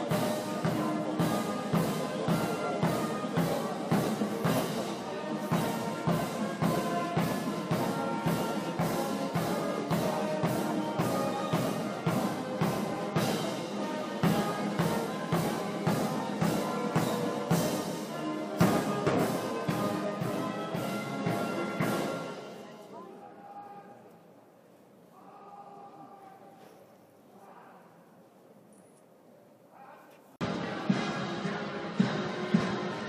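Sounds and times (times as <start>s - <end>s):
military band brass and drums: 0.0s - 24.0s, 30.4s - 33.0s.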